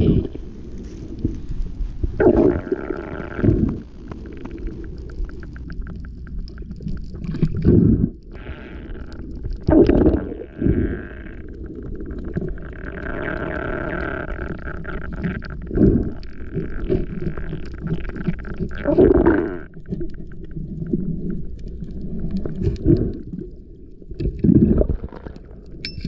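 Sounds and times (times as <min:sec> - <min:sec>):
muffled gurgling water surges: 0:00.0 - 0:25.9
low underwater rumble: 0:00.0 - 0:26.0.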